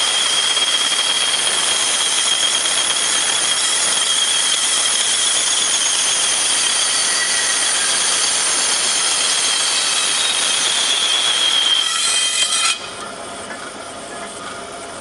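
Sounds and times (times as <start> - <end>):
band saw running: 0.0 - 14.8.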